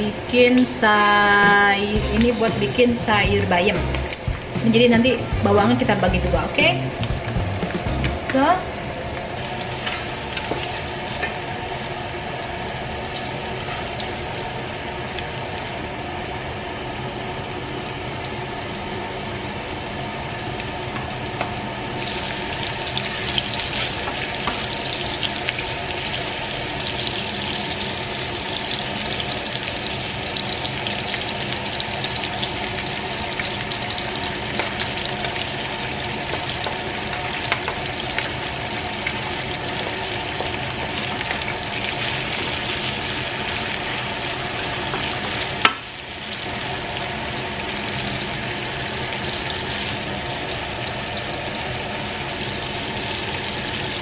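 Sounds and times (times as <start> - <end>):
food sizzling in hot oil: 9.4 - 54.0.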